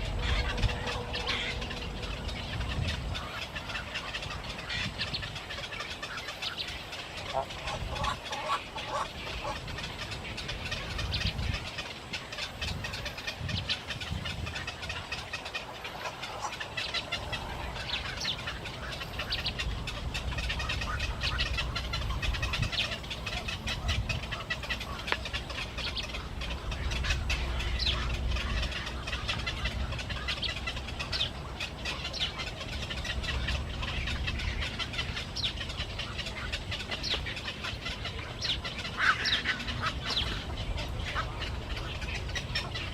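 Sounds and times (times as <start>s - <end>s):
low steady rumble: 0.0s - 42.9s
small birds chirping: 0.0s - 42.9s.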